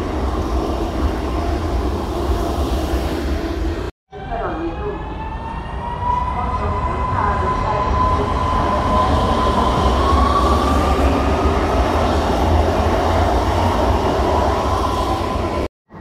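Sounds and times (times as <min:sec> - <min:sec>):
high train whine: 0:00.0 - 0:16.0.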